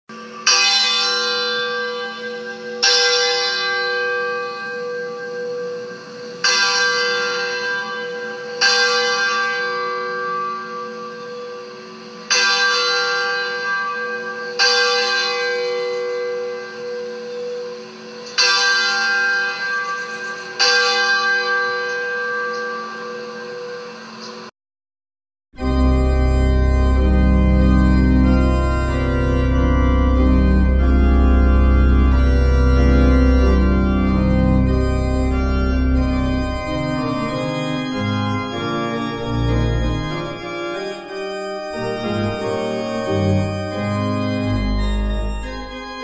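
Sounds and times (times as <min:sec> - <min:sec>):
church bell tolling: 0:00.1 - 0:24.5, 0:25.6 - 0:46.0.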